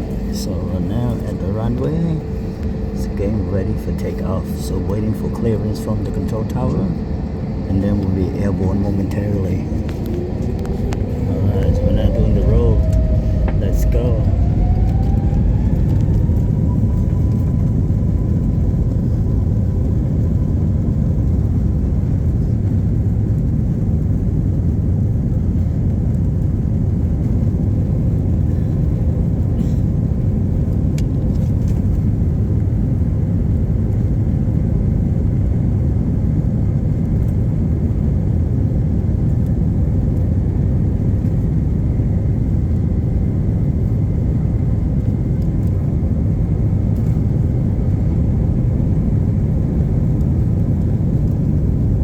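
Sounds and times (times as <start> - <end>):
jet engine whine: 0.0 - 52.0
jet engines rumbling in cabin: 0.0 - 52.0.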